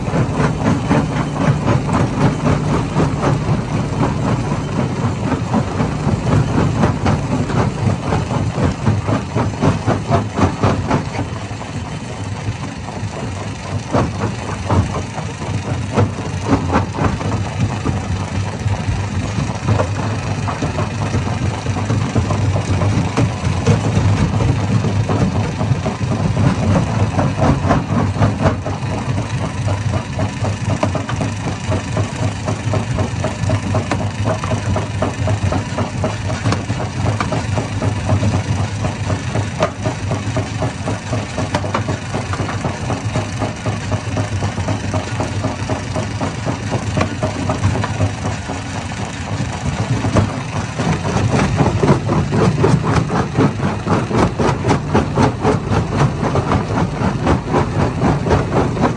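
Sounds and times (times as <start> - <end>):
crusher rattling and knocking: 0.0 - 58.9
heavy engine drone: 0.0 - 58.9.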